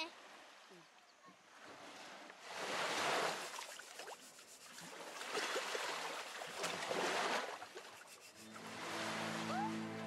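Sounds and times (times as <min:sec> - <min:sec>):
lake waves lapping: 0:01.4 - 0:10.0.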